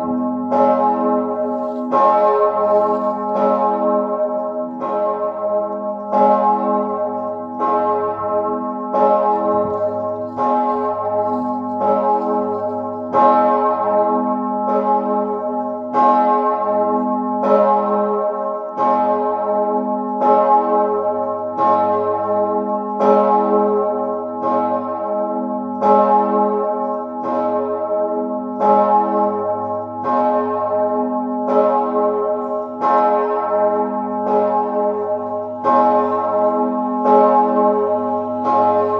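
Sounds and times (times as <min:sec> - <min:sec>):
large bell tolling: 0:00.0 - 0:38.9.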